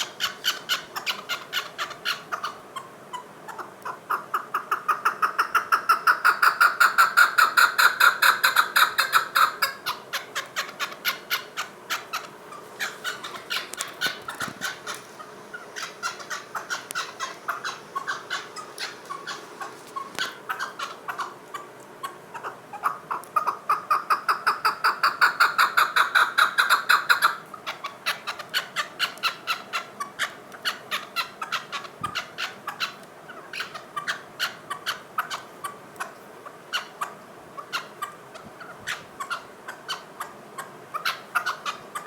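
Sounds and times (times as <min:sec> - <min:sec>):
partridge rapid clucking calls: 0:00.0 - 0:42.0.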